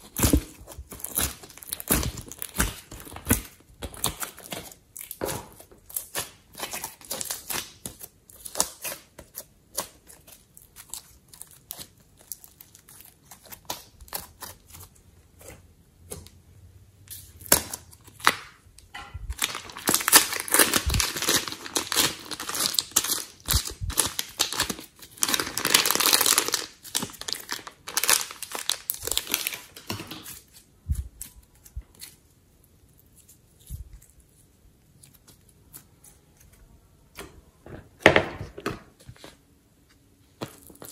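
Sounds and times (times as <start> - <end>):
plastic piping bag crinkling: 0.0 - 15.5, 17.1 - 36.7, 40.4 - 40.9
clay squishing: 0.0 - 40.9.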